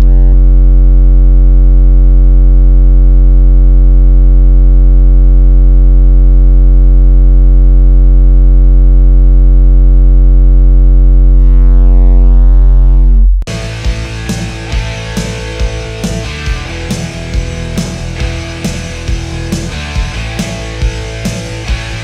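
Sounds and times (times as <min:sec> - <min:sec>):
low buzzy synth bass note: 0:00.0 - 0:22.0.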